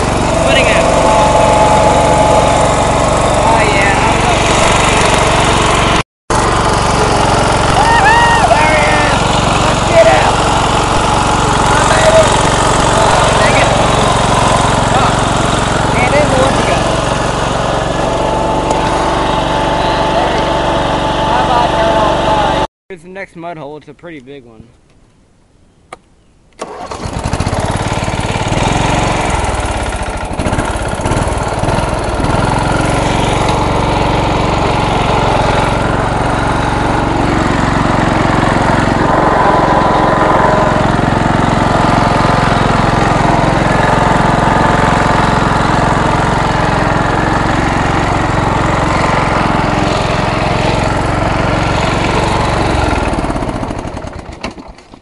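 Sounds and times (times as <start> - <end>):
lawnmower engine running hard: 0.0 - 22.7, 26.6 - 55.0.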